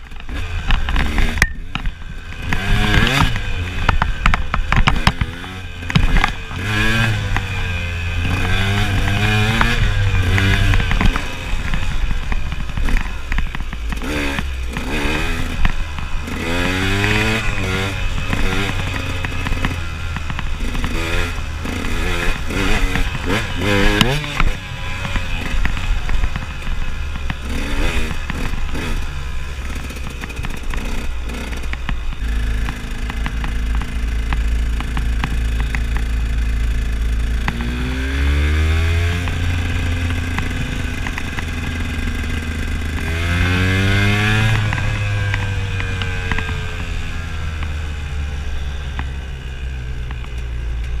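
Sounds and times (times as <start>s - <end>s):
bike rattling over rough trail: 0.0s - 51.0s
motorcycle engine revving: 0.0s - 51.0s.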